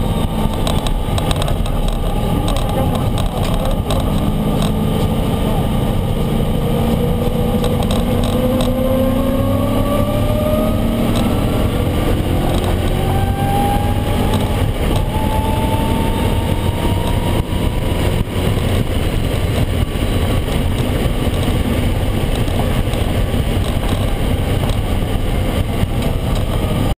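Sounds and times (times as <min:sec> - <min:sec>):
race car engine under hard throttle: 0:00.0 - 0:26.9.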